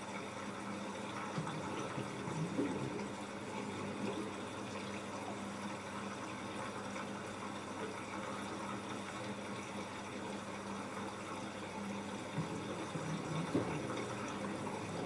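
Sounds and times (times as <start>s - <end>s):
steady hum: 0.0s - 15.0s
washing machine water running: 0.0s - 15.0s.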